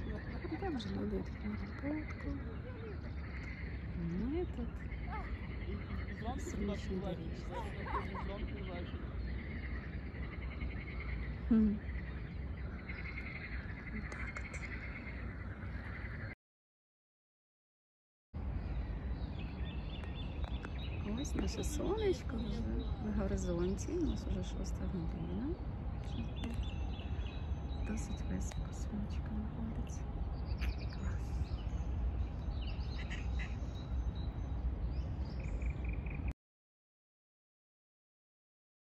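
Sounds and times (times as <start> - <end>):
birds calling: 0.0 - 16.4, 18.4 - 36.3
frogs croaking: 0.0 - 16.4, 18.4 - 36.3
steady low rumble: 0.0 - 16.4, 18.4 - 36.3.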